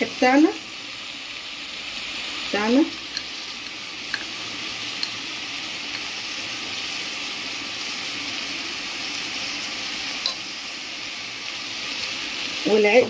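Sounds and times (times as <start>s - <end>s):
rice sizzling in oil: 0.0s - 13.0s.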